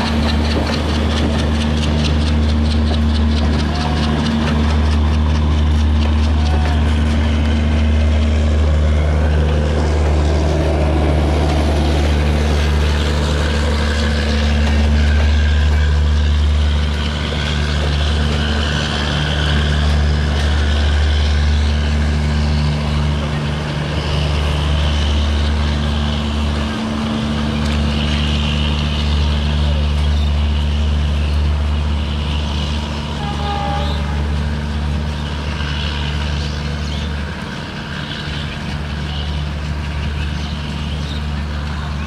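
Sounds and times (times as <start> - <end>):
diesel locomotive idling: 0.0 - 42.0.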